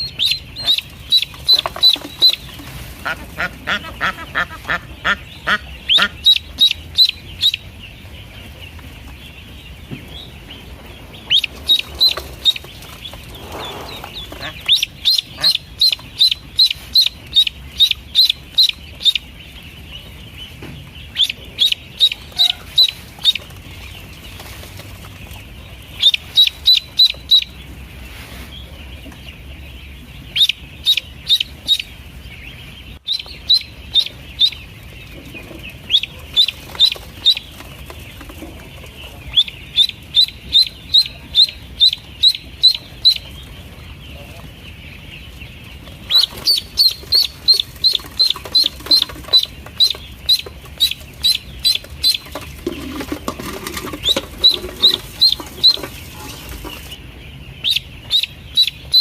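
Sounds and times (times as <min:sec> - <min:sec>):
ducklings peeping: 0:00.0 - 0:59.0.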